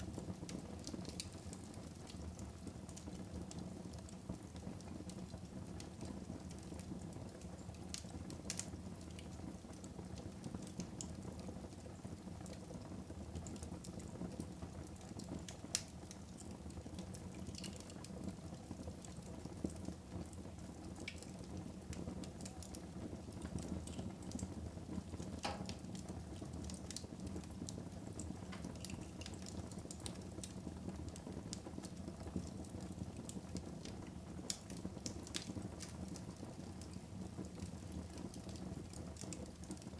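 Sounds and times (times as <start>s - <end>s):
fire crackling in a fireplace: 0.0s - 39.9s.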